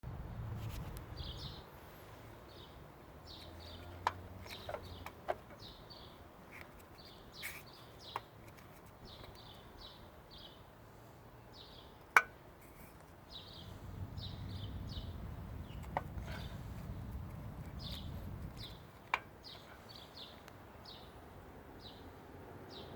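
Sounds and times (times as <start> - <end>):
small birds chirping: 0.7 - 22.9.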